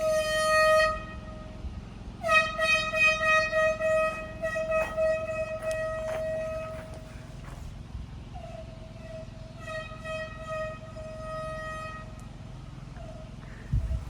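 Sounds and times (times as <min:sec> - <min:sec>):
air horn blasts: 0:00.0 - 0:14.0.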